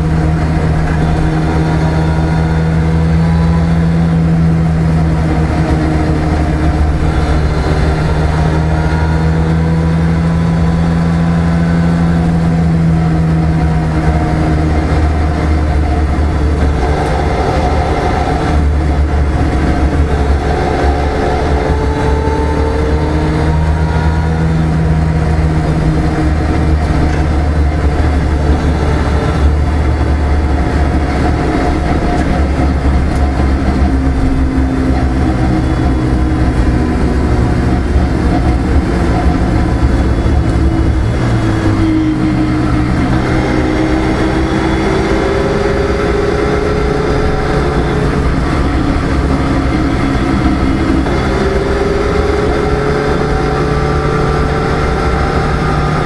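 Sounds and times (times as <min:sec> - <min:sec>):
car engine drone: 0:00.0 - 0:56.0
tyre and road noise: 0:00.0 - 0:56.0.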